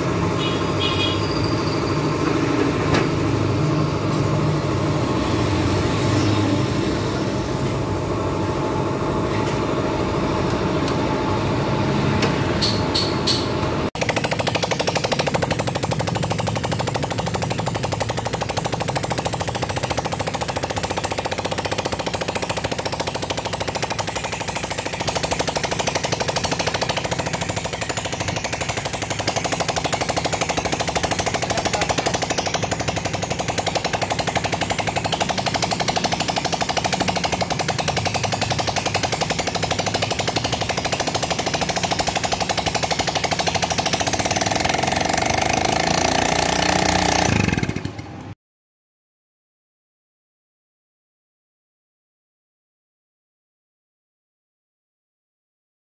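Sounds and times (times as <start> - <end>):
scooter engine clatter: 0.0 - 48.4.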